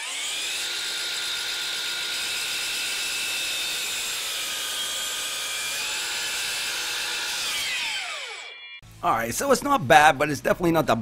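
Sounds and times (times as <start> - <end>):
miter saw whining: 0.0 - 9.0.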